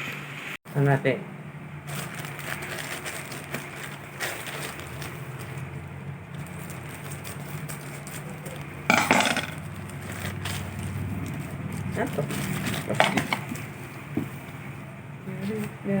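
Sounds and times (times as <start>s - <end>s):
parcel wrapping rustling: 1.8s - 15.8s.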